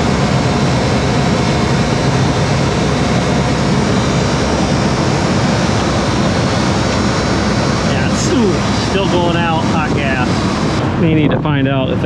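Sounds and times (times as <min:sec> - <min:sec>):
compressor and fan humming: 0:00.0 - 0:12.0.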